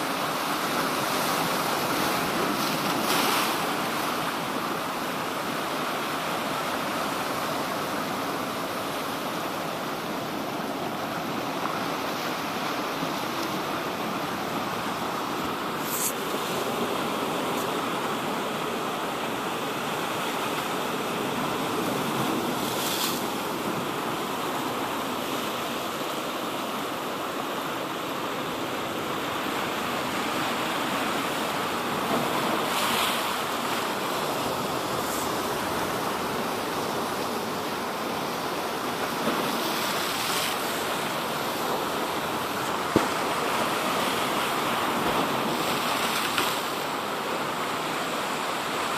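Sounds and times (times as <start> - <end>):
sea waves washing onto shore: 0.0 - 48.9.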